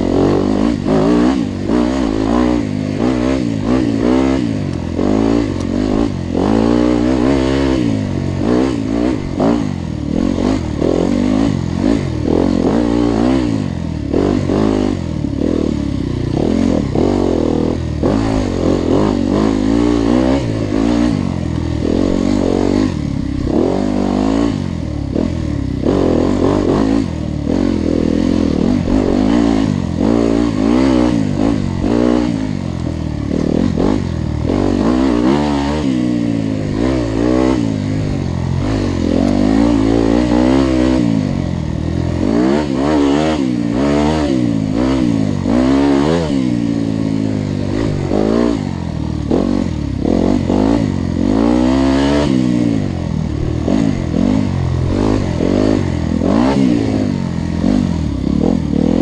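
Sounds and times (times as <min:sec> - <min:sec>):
motorcycle engines revving: 0:00.0 - 0:59.0
clatter: 0:00.2 - 0:59.0.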